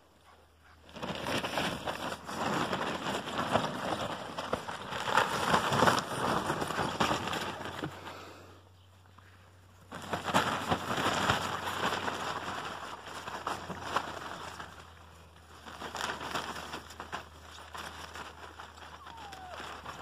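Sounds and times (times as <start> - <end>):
puppies scrambling over grass: 0.1 - 8.3, 9.7 - 20.0.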